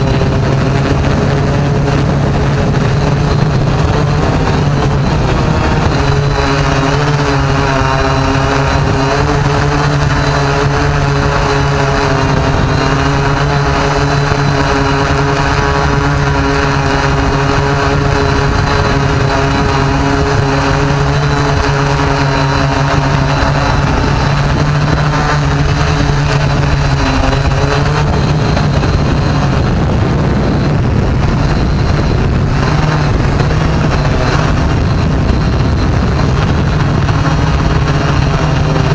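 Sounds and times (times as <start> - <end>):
drone propellers whirring: 0.0 - 38.9
higher motor tones: 0.0 - 38.9.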